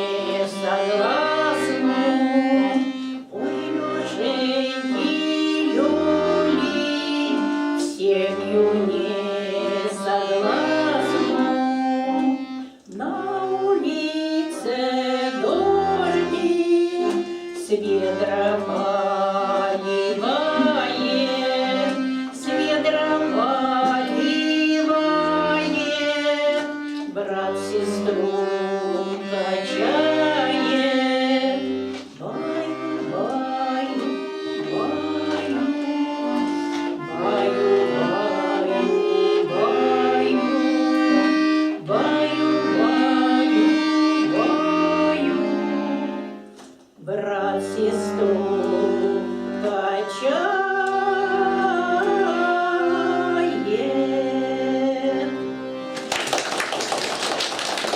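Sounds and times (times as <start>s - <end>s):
accordion playing folk tune: 0.0s - 57.9s.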